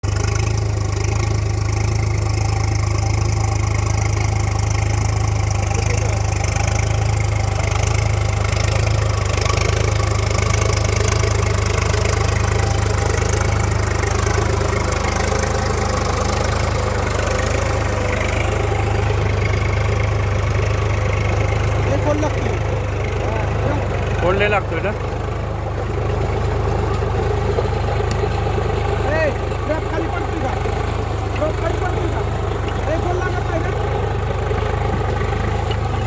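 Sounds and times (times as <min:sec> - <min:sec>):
tractor diesel engine droning: 0:00.0 - 0:36.0.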